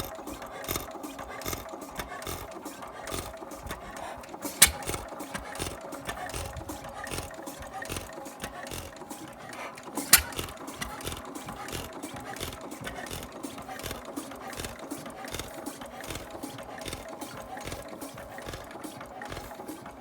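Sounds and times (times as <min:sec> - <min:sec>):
sharp click: 0:00.0 - 0:09.0, 0:09.6 - 0:19.4
stationary engine running: 0:00.0 - 0:20.0.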